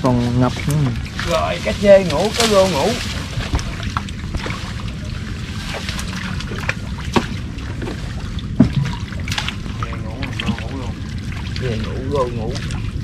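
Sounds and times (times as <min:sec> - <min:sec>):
steady low rumble: 0:00.0 - 0:13.0
water splashing and trickling: 0:00.0 - 0:13.0.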